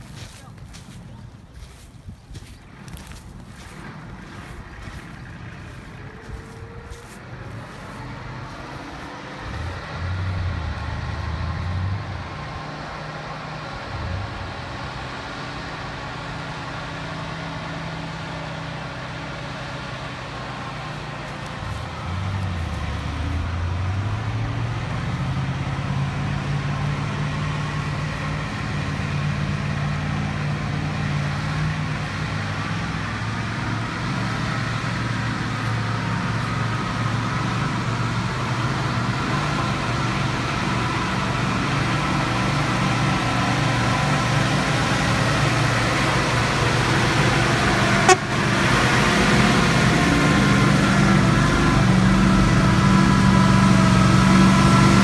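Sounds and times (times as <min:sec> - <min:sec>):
truck engine labouring: 0:00.0 - 0:55.0.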